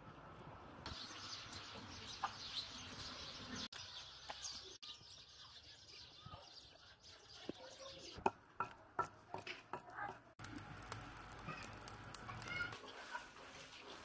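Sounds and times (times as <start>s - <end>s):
faint outdoor background noise: 0.0s - 14.0s
small birds chirping: 0.9s - 14.0s.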